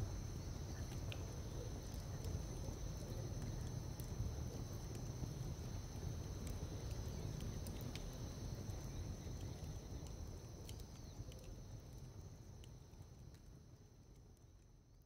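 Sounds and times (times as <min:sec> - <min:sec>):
faint ticks: 0:00.7 - 0:14.8.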